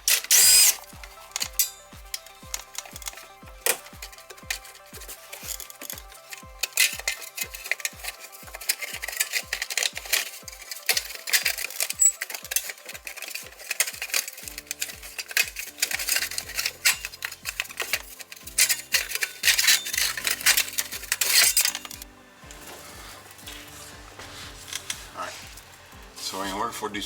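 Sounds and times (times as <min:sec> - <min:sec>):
metal tools clinking and rattling: 0:00.0 - 0:26.7
background music with steady beat: 0:00.0 - 0:27.0.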